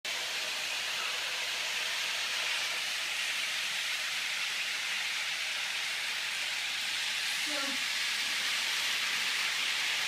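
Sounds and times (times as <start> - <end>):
steady hiss: 0.1 - 10.0.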